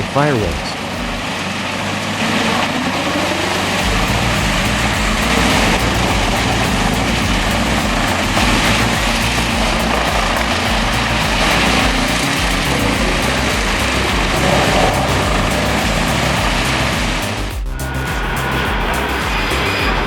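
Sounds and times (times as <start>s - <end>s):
background music with bass: 0.0s - 20.0s.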